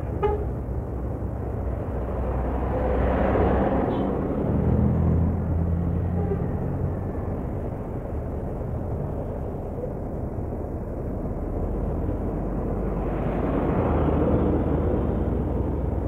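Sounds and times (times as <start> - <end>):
diesel bus engine rumbling: 0.0 - 16.0.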